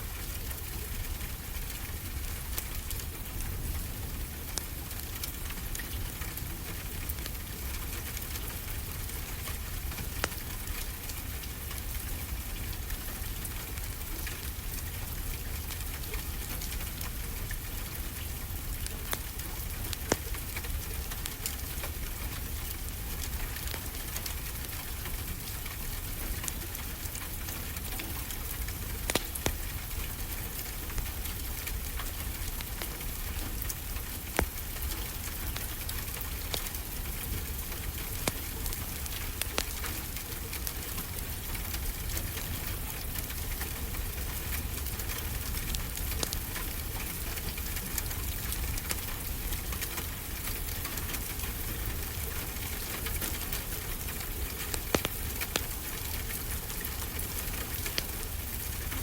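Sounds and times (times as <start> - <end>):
wood fire crackling: 0.1 - 59.0.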